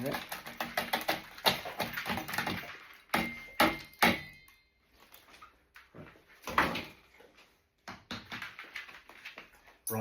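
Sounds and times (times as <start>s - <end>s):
household knocks and clatters: 0.0s - 10.0s.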